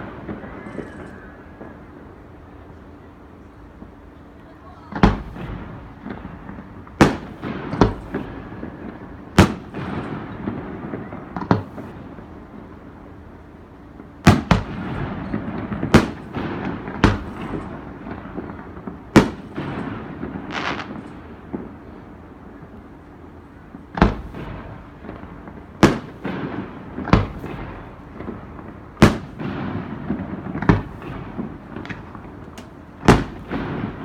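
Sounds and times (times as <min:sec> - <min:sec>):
fireworks bangs echoing: 0:00.0 - 0:02.7, 0:03.4 - 0:34.0.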